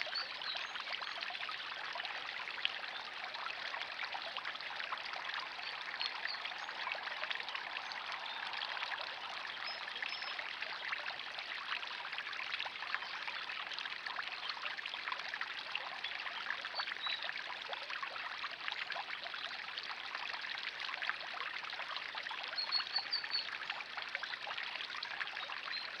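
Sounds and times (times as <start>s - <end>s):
water trickling into pond: 0.0s - 26.0s.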